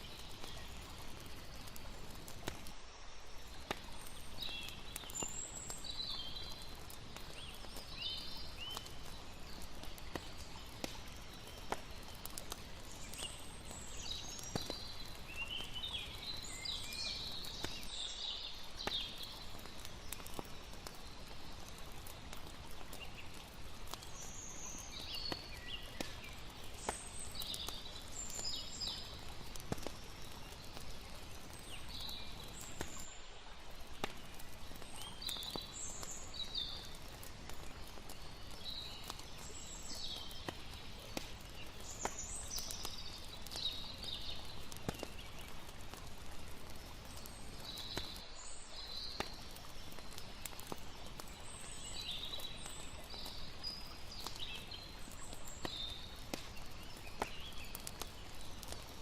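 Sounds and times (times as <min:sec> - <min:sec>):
campfire crackling: 0:00.0 - 0:59.0.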